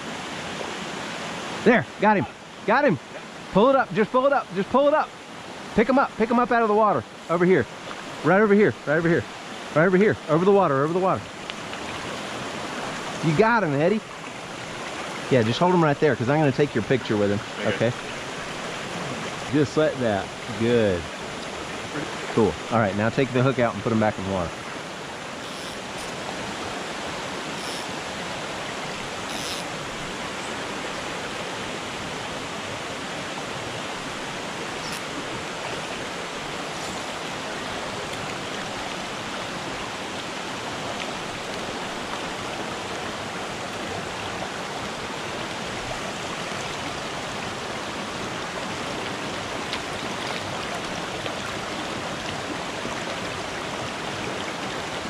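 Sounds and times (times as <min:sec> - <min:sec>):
creek water flowing over rocks: 0:00.0 - 0:55.0.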